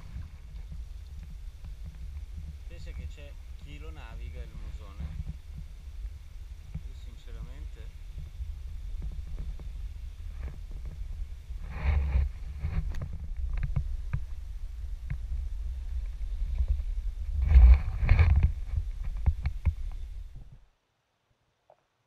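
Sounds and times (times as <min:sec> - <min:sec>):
steady low rumble: 0:00.0 - 0:20.6.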